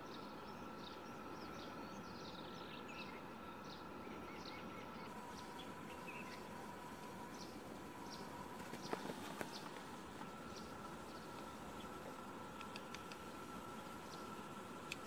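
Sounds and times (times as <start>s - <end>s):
faint steady background tone: 0.0s - 15.0s.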